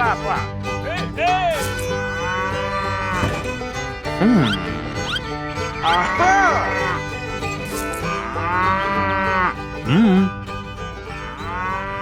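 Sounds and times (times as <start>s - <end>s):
background music: 0.0s - 12.0s
cattle mooing: 1.6s - 10.4s, 11.2s - 12.0s.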